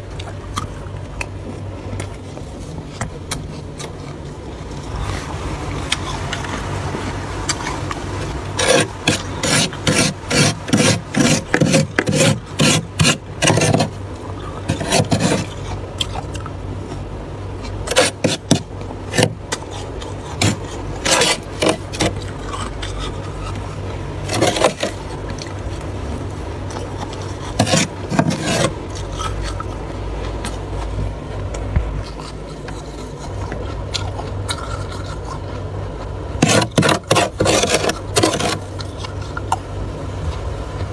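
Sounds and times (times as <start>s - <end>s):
scraping freezer frost: 0.0s - 40.9s
steady low hum: 0.0s - 40.9s.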